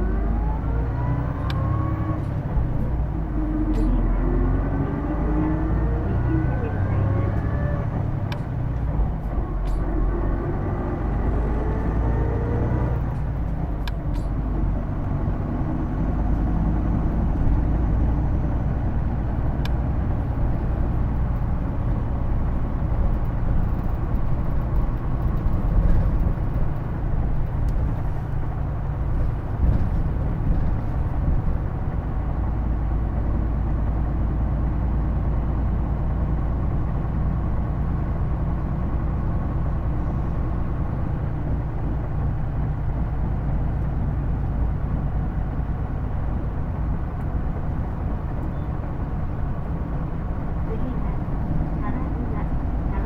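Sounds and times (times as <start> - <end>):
bus diesel engine rumble: 0.0 - 53.0.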